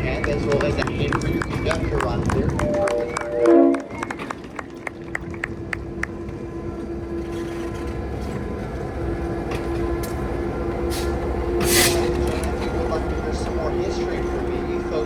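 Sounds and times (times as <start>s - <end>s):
locomotive engine idling: 0.0s - 15.0s.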